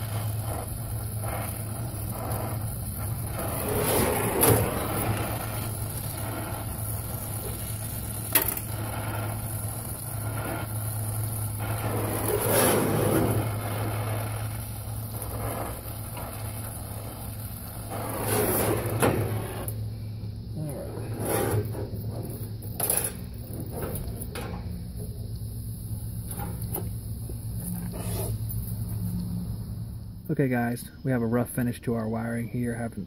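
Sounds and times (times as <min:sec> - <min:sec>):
torch flame hissing: 0:00.0 - 0:31.2
steady low hum: 0:00.0 - 0:33.0.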